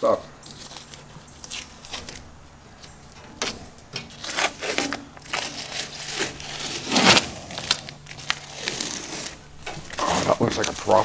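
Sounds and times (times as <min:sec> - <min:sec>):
masking tape peeling and crumpling: 0:00.4 - 0:11.0.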